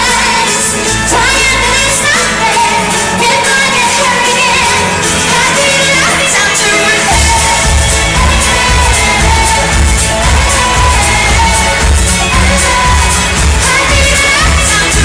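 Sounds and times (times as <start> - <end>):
band with bass and drums: 0.0 - 15.0
woman singing: 0.0 - 15.0.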